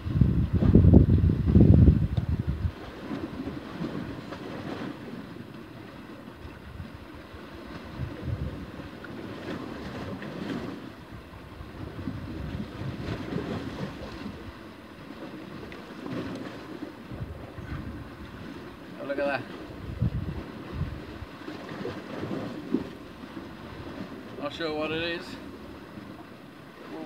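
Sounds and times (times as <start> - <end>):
sea washing against rocks: 0.0 - 27.0
wind rumbling on microphone: 0.0 - 27.0.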